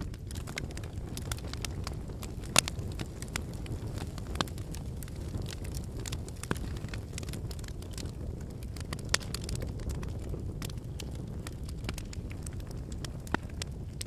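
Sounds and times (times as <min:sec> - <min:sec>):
firewood crackling and popping: 0:00.0 - 0:14.0
low rush of flames: 0:00.0 - 0:14.0.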